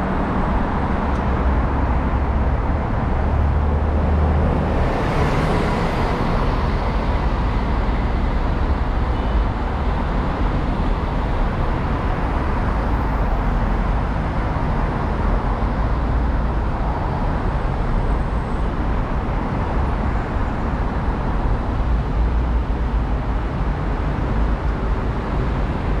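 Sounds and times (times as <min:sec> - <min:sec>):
bus passing close: 0:00.0 - 0:26.0
road and tyre noise: 0:00.0 - 0:26.0.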